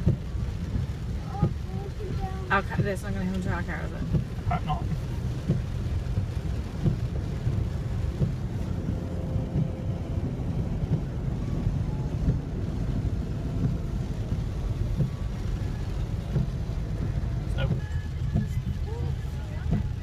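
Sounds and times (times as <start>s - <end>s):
car cabin rumble in rain: 0.0s - 20.0s.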